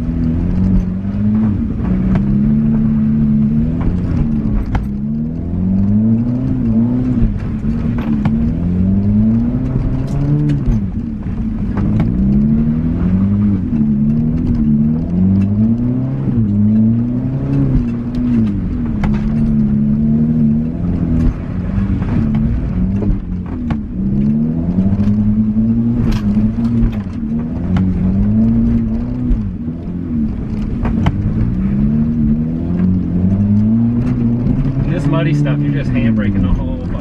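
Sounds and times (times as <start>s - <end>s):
knocks and rattles: 0.0s - 37.0s
riding lawnmower engine revving: 0.0s - 37.0s.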